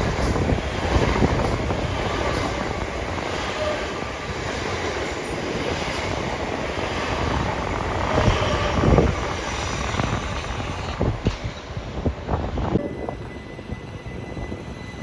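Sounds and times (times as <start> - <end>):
train running past on rails: 0.0 - 15.0.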